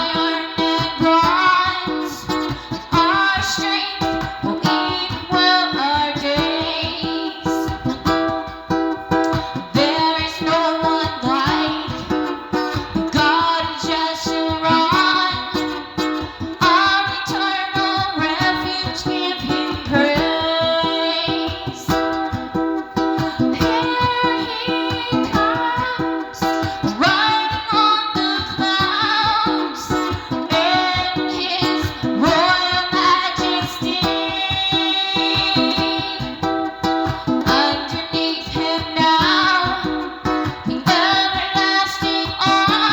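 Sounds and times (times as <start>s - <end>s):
guitar accompaniment: 0.0s - 42.9s
person singing: 0.0s - 42.9s.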